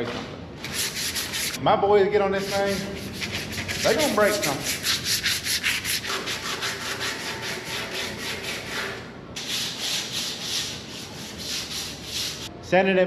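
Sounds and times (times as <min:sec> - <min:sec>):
sandpaper on steel tube: 0:00.6 - 0:01.6, 0:02.3 - 0:12.5.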